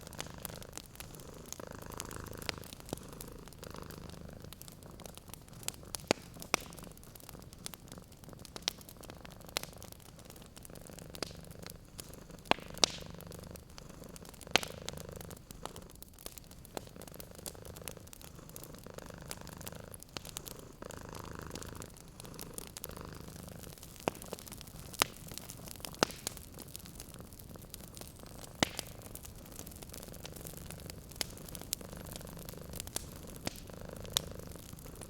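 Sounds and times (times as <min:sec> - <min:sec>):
cat purring: 0:00.0 - 0:35.0
sharp fire pops: 0:00.0 - 0:35.0
wood fire crackling: 0:00.0 - 0:35.0.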